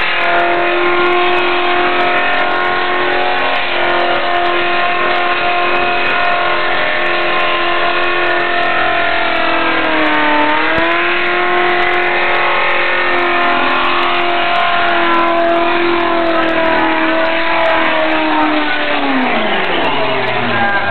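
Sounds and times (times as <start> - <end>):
car engine revving high: 0.0 - 20.9.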